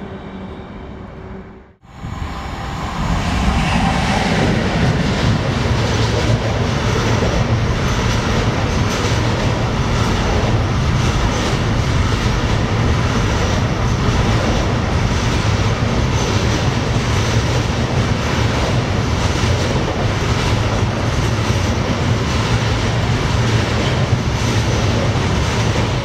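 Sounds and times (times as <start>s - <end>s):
freight train wagons rolling on rails: 4.8s - 26.0s.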